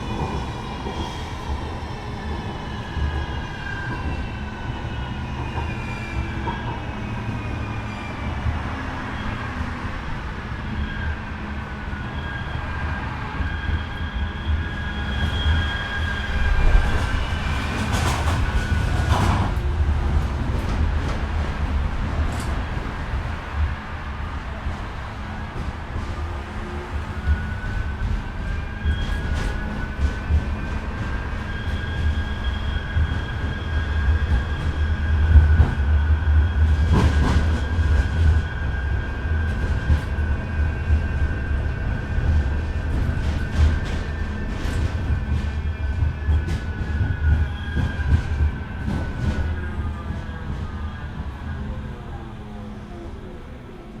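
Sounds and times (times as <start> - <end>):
wheels rattling on rails: 0.0 - 52.0
tram rumbling on rails: 0.0 - 54.0.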